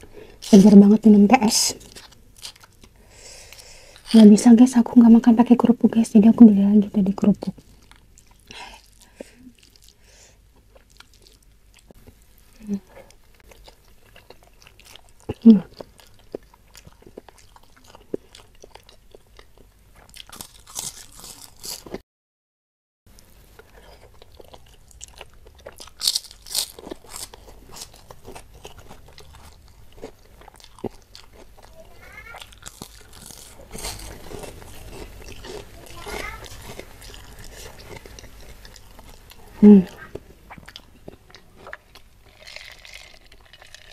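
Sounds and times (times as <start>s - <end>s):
person chewing and crunching: 1.5s - 4.3s, 7.5s - 12.3s, 13.0s - 22.0s, 23.2s - 43.9s.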